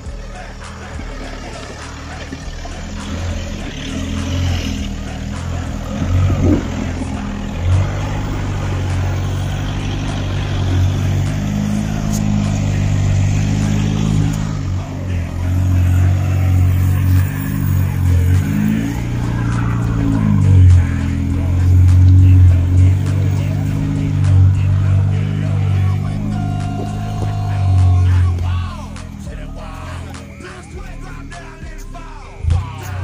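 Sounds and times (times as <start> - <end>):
diesel engine working under load: 0.0 - 33.0.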